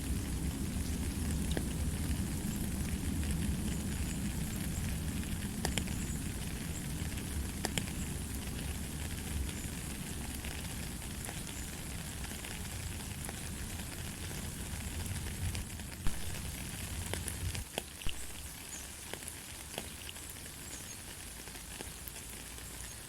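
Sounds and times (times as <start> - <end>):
light rain hissing: 0.0 - 23.0
raindrop ticks: 0.1 - 23.0.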